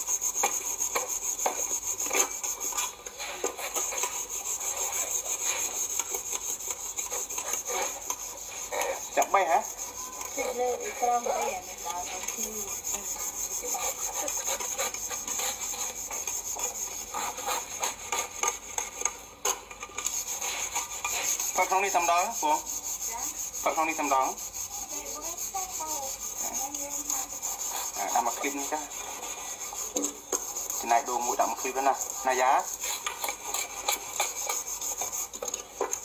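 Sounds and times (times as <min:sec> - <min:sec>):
scraping at coconut husk: 0:00.4 - 0:18.8, 0:20.0 - 0:35.6.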